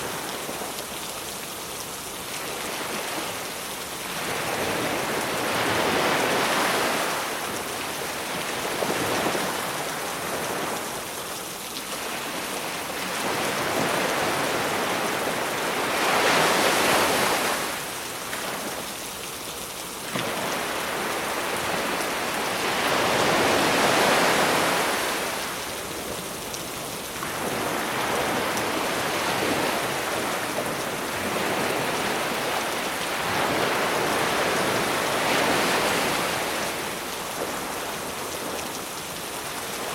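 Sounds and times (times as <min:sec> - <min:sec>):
rain hiss: 0:00.0 - 0:39.9
sea waves washing onto shore: 0:00.0 - 0:39.9.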